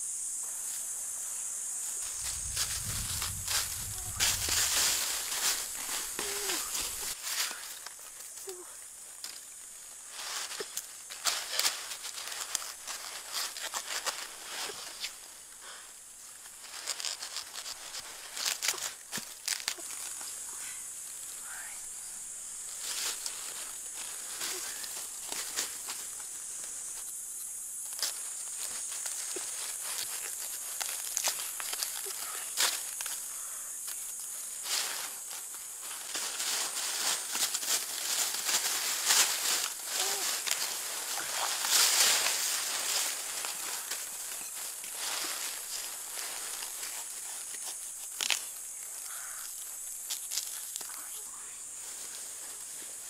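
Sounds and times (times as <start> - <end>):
steady high hiss: 0.0 - 53.0
dry leaves rustling and crackling: 1.3 - 53.0.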